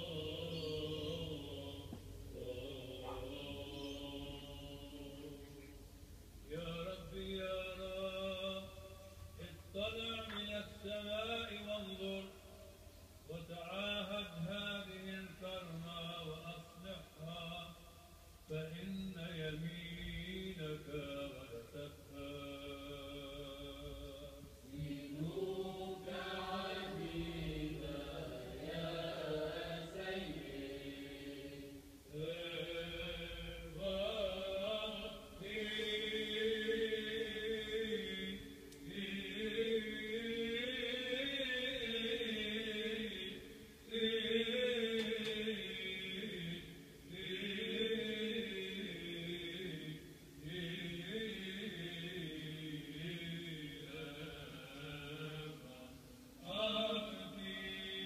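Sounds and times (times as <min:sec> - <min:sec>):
voices singing a slow chant: 0:00.0 - 0:58.0.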